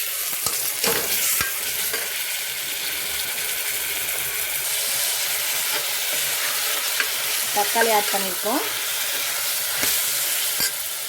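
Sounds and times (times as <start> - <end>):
paste frying in hot oil: 0.0 - 11.0.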